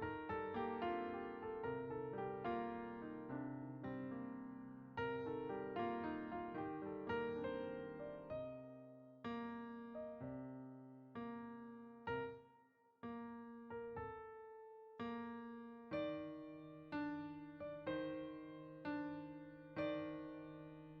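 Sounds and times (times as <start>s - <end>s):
slow piano chords: 0.0s - 12.4s, 13.0s - 21.0s.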